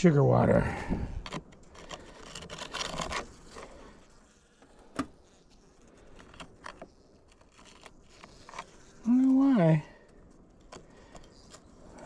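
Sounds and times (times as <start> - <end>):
plastic hive scraping and clicks: 1.1 - 12.0.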